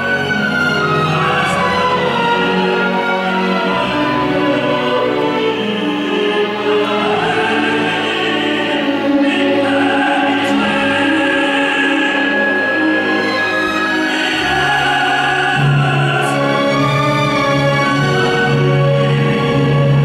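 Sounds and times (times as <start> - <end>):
operatic tenor singing: 0.0 - 20.0
orchestra playing: 0.0 - 20.0.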